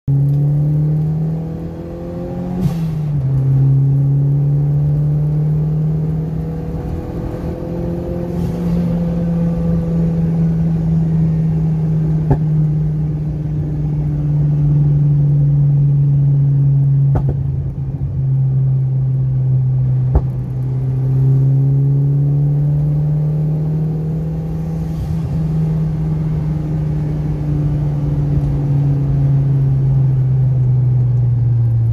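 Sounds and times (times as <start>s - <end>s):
car engine droning inside cabin: 0.1s - 31.9s.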